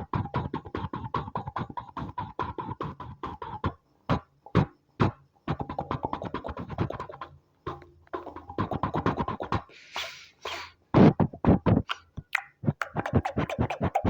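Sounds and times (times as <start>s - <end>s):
beatbox style percussive beats: 0.0s - 14.0s.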